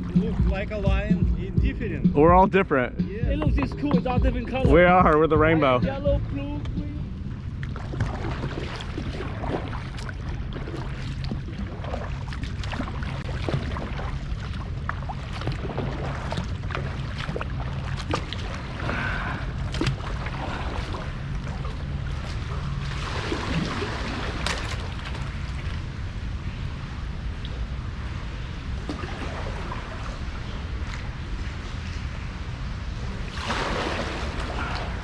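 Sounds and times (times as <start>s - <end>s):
paddle splashes: 0.0s - 1.5s, 3.2s - 26.6s, 27.2s - 35.0s
water lapping around kayak: 0.0s - 35.0s
wind rumble on microphone: 0.0s - 35.0s.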